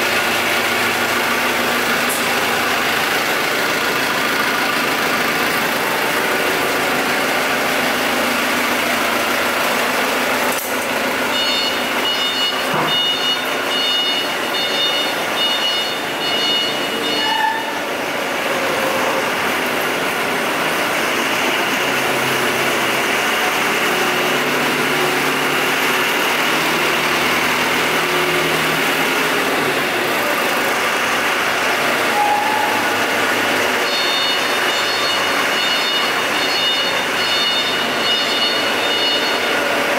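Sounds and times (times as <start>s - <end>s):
engine running loudly: 0.0s - 13.0s, 17.9s - 39.9s.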